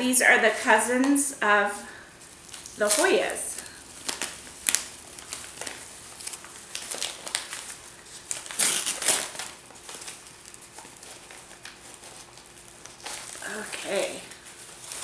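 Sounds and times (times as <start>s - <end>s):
newspaper rustling and crinkling: 1.8s - 15.0s.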